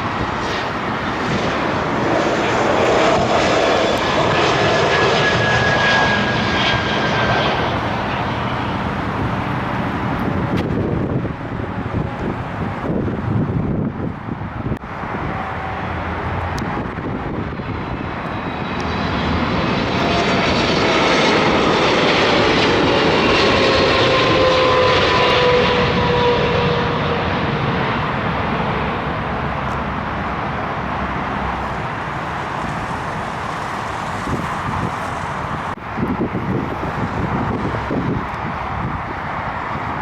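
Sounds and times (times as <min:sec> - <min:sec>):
airliner engines passing: 0:00.0 - 0:40.0.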